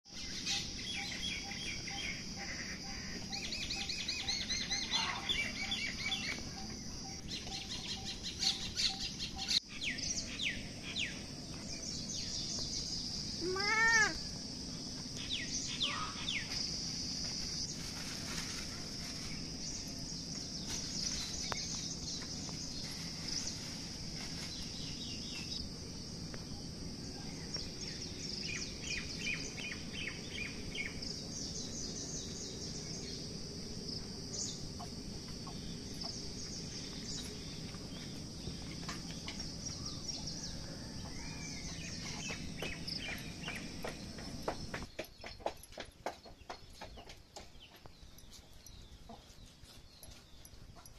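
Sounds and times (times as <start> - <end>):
birds chirping: 0.1 - 50.9
steady high-pitched hiss: 0.1 - 50.9.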